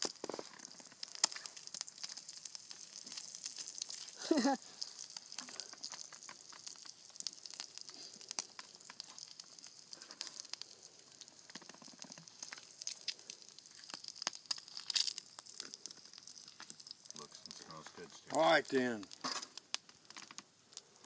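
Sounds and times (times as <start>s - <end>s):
food frying with pops: 0.0s - 21.0s.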